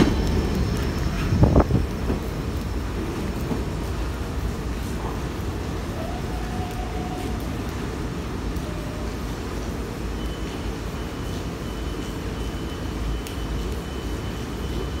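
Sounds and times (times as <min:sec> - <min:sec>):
freight cars rolling on rails: 0:00.0 - 0:15.0.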